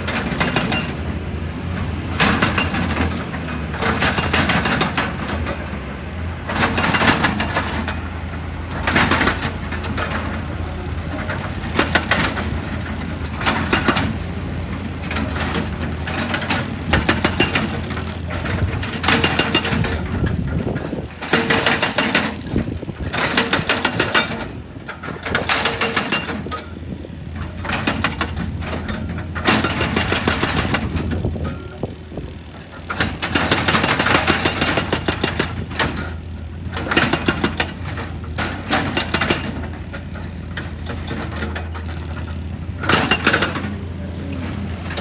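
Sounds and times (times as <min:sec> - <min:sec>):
diesel engine droning: 0:00.0 - 0:45.0
hydraulic breaker hammering rock: 0:00.0 - 0:45.0.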